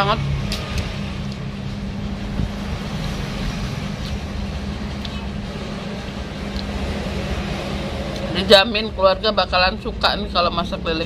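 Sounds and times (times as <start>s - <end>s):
low rumble with hum: 0.0s - 11.0s.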